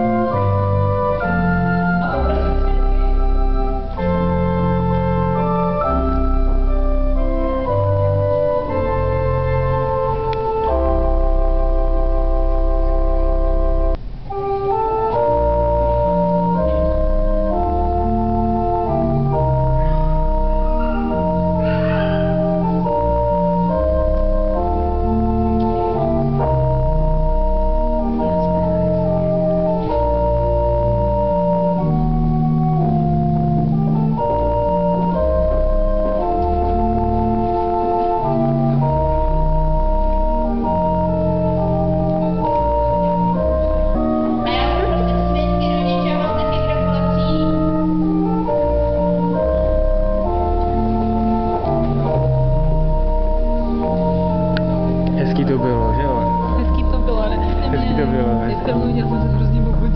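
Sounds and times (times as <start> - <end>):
organ playing chords: 0.0 - 59.9.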